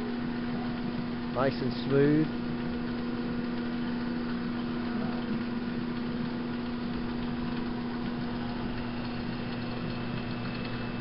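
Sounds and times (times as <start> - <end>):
drill press motor humming: 0.0 - 11.0.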